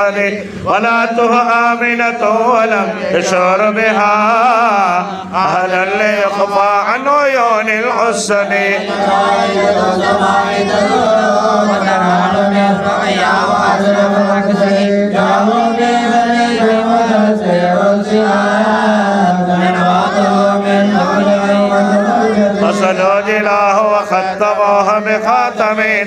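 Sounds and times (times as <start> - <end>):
men chanting through microphones: 0.0 - 26.0.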